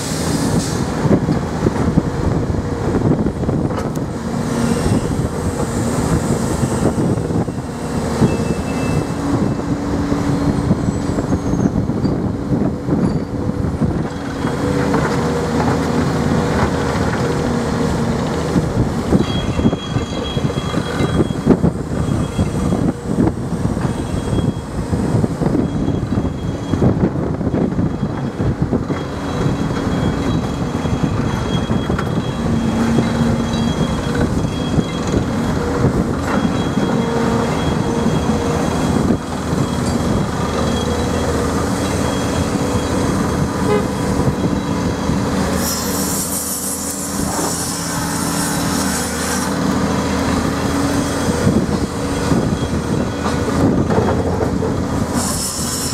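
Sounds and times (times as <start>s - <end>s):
excavator diesel engine under load: 0.0s - 55.9s
hydraulics driving boom and bucket: 0.0s - 55.9s.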